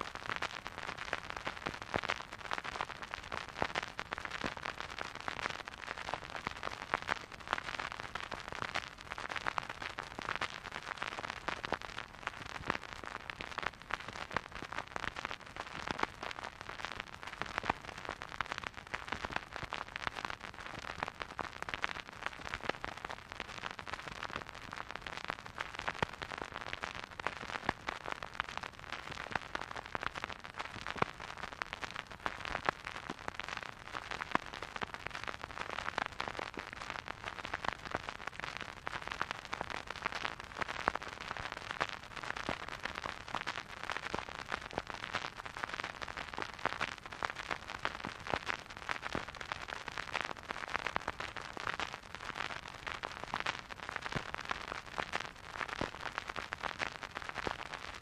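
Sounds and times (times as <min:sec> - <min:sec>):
vinyl crackles and pops: 0:00.0 - 0:58.0
vinyl record hiss: 0:00.0 - 0:58.0.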